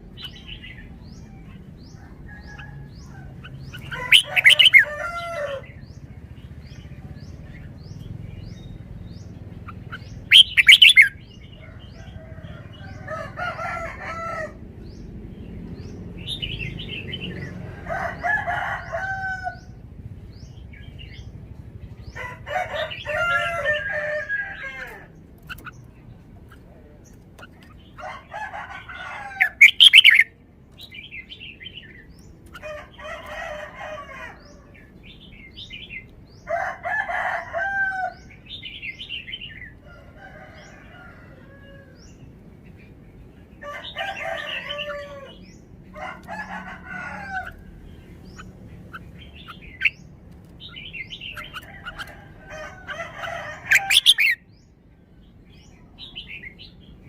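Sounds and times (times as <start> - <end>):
bird singing warbled phrases: 0.0 - 39.9, 41.8 - 57.0.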